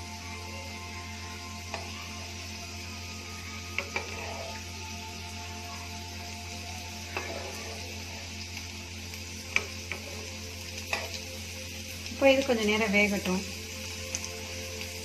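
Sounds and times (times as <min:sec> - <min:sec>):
flatbreads sizzling in oil: 0:00.0 - 0:15.0.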